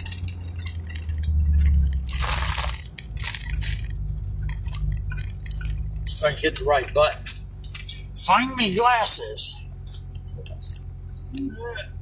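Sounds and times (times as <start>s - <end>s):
crunching noise: 0.0s - 12.0s
vehicle engine rumble: 0.0s - 12.0s.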